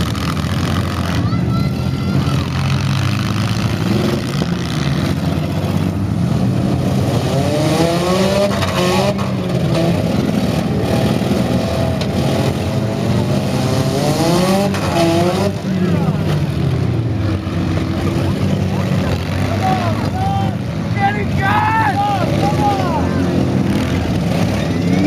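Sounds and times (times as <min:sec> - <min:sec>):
vehicle engines revving: 0:00.0 - 0:25.0.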